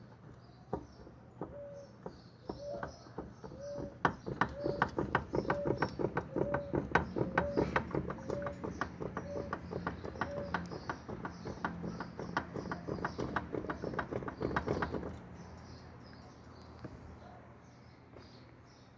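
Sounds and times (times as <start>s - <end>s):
rapid irregular clicking and tapping: 0.0s - 15.4s.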